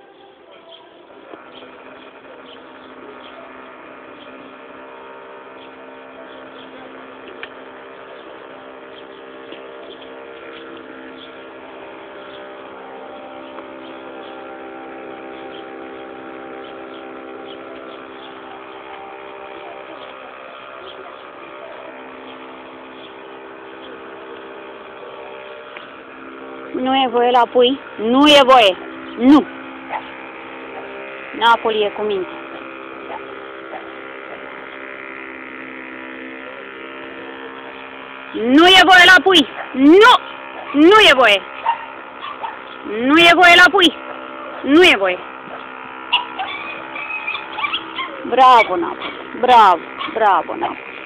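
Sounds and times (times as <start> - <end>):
steady mechanical hum: 0.0 - 51.0.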